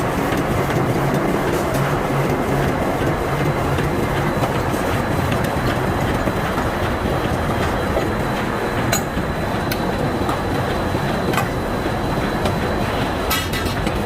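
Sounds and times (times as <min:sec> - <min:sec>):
loud steady machinery noise: 0:00.0 - 0:14.0.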